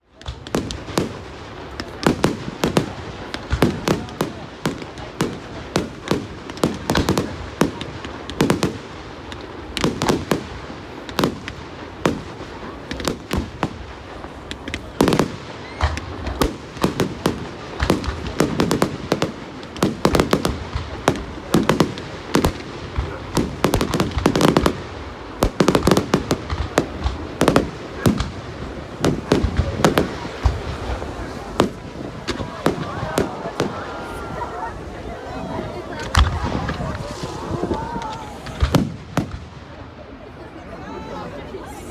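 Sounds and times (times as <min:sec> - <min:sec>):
fireworks bangs: 0:00.0 - 0:41.9
fireworks crackle: 0:00.0 - 0:41.9.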